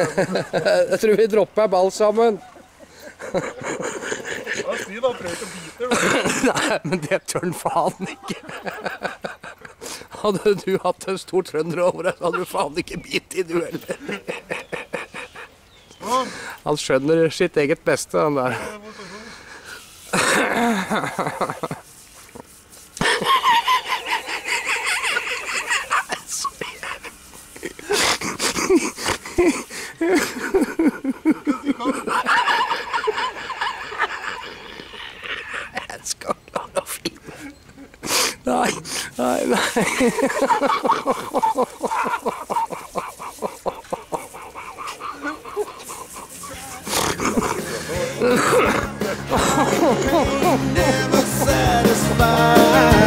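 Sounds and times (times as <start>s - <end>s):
garden hose spraying water: 4.5s - 34.4s, 35.6s - 51.5s.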